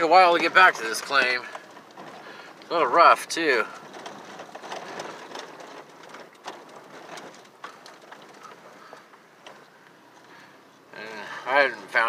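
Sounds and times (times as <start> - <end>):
rattles and clicks: 0.0 - 12.0
vehicle road noise: 0.0 - 12.0.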